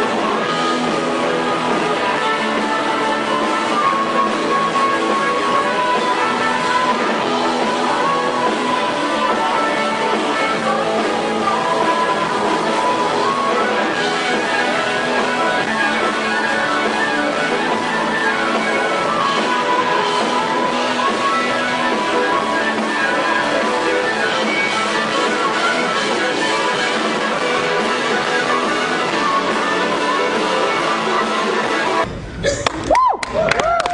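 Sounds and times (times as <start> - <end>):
electric guitar: 0.0 - 33.9.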